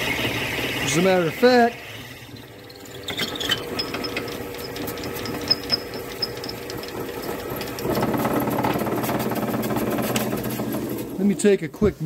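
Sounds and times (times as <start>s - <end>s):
drill bit boring into wood: 0.0s - 10.8s
wood lathe running: 0.0s - 11.7s.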